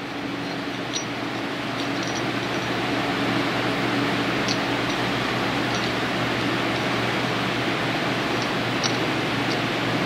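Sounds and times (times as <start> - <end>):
fan-like hum and hiss: 0.0 - 10.0.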